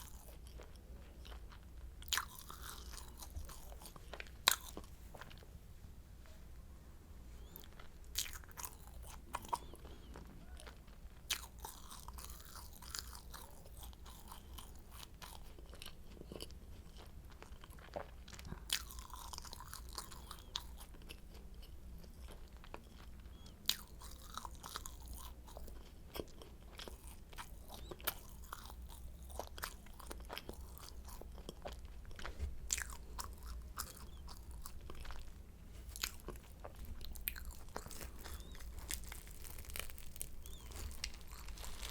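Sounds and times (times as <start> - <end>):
chewing crisp pastry: 0.0 - 5.6, 7.4 - 41.9.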